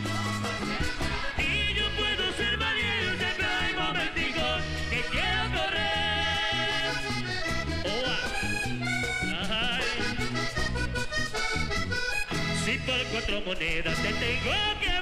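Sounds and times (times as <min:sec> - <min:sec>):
bass guitar: 0:00.0 - 0:15.0
button accordion melody: 0:00.0 - 0:15.0
percussion: 0:00.0 - 0:15.0.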